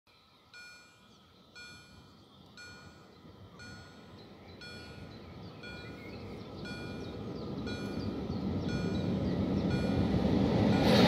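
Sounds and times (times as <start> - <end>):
crossing warning bell ringing: 0.3 - 11.0.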